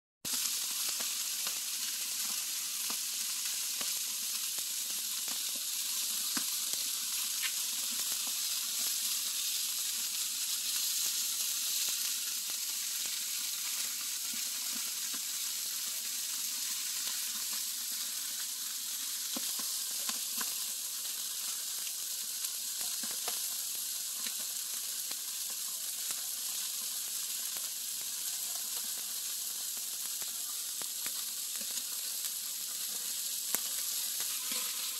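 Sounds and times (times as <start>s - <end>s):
chicken sizzling on a grill: 0.2s - 34.9s.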